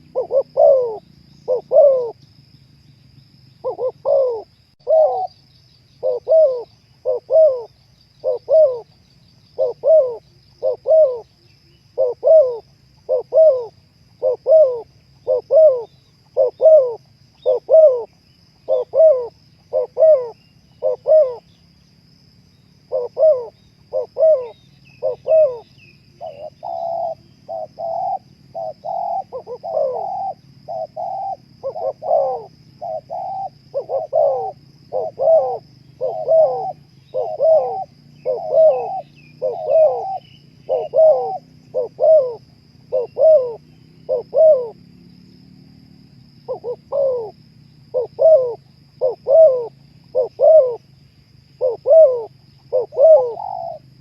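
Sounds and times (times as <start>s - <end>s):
dove cooing: 0.0s - 2.2s, 3.6s - 5.4s, 6.0s - 21.6s, 22.8s - 44.8s, 46.4s - 50.9s, 51.6s - 54.0s.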